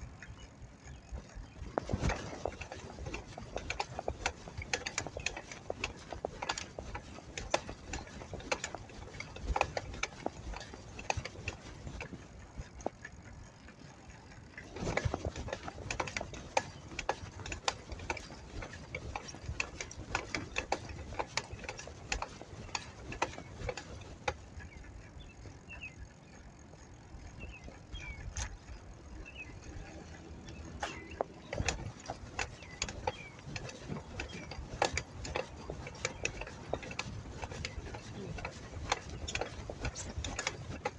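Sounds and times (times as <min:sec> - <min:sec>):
bicycle clicking and rattling: 0:00.0 - 0:40.9.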